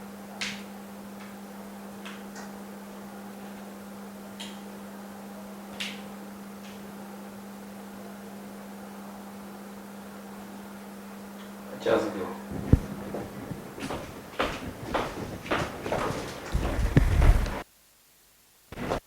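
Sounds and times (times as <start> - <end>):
machine vacuum pump humming: 0.0 - 17.6, 18.7 - 19.0.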